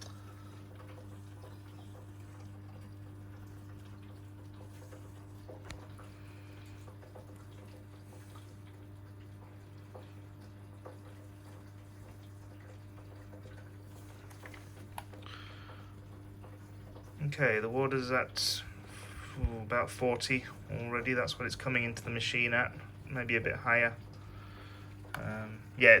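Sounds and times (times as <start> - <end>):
faint drips and ticks: 0.0 - 26.0
steady low hum: 0.0 - 26.0
water running into tub: 0.0 - 26.0.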